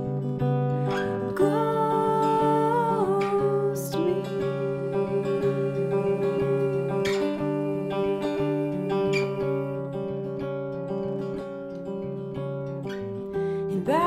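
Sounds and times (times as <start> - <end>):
solo guitar picking: 0.0 - 14.0.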